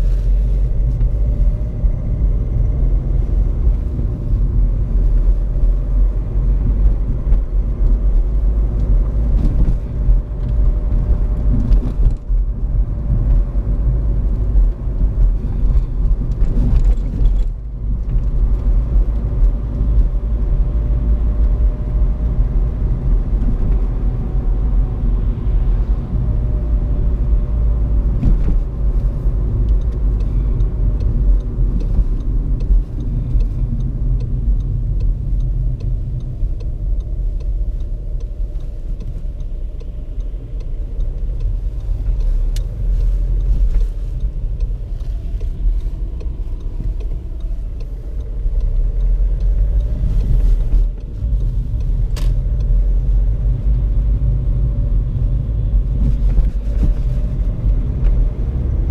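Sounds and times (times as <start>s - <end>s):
car engine and tyres rumbling: 0.0s - 58.9s.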